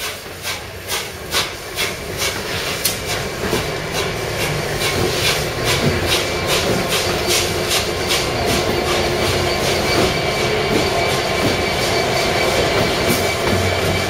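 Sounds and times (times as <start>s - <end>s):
train rhythmic clatter: 0.0s - 14.0s
train running: 0.0s - 14.0s.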